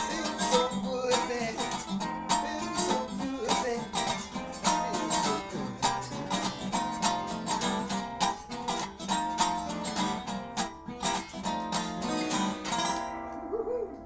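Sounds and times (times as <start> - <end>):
guitar strumming blues chords: 0.0 - 14.0.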